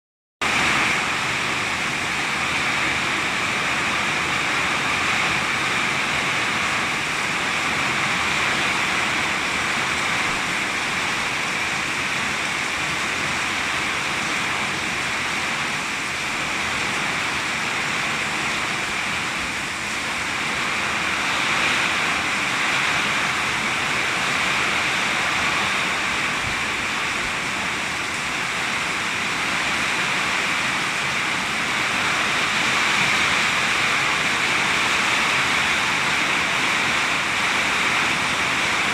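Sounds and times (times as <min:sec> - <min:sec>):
heavy rain pouring: 0:00.4 - 0:38.9.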